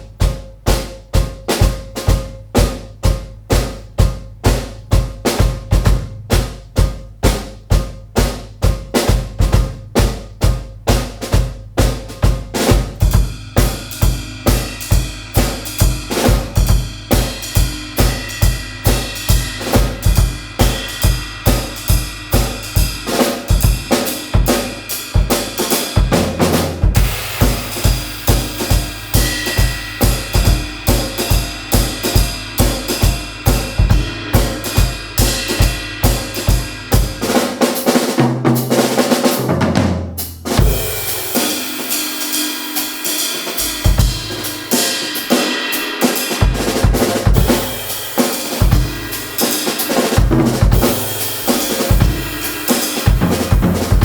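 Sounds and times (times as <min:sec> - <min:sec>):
kick drum beat: 0:00.0 - 0:22.9, 0:23.5 - 0:37.2, 0:39.8 - 0:41.1, 0:46.4 - 0:47.9, 0:48.6 - 0:49.1, 0:50.2 - 0:54.0
low tom fill: 0:00.0 - 0:42.0, 0:43.0 - 0:54.0
snare and cymbals: 0:00.0 - 0:54.0.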